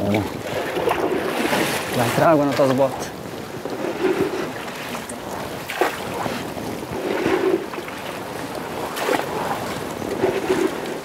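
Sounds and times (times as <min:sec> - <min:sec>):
water sloshing around boat: 0:00.0 - 0:11.0
wind on microphone: 0:00.0 - 0:11.0.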